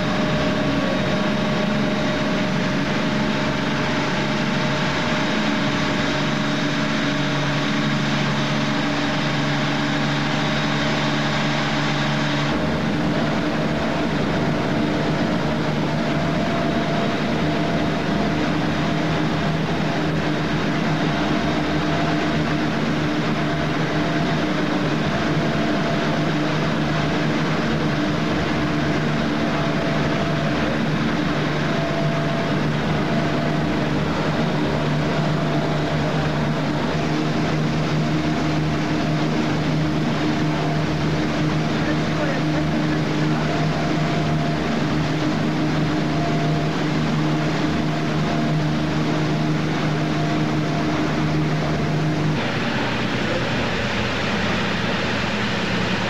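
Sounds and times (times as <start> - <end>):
ship engines droning: 0.0 - 56.0
wash of noise: 0.0 - 56.0.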